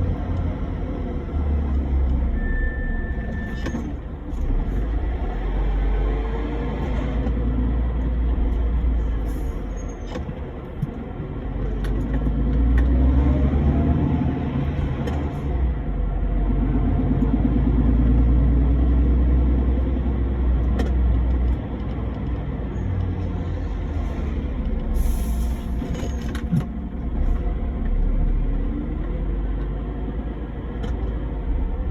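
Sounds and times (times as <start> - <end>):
road noise while driving: 0.0 - 31.9
truck engine rumbling: 0.0 - 31.9.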